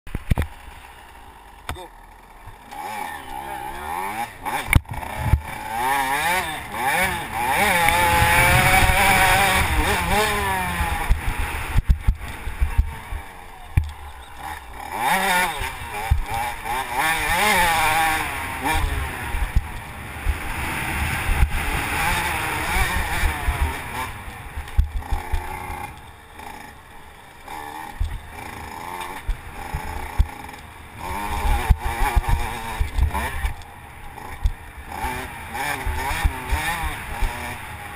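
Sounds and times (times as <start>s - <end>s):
motocross bike engine revving: 0.1s - 37.9s.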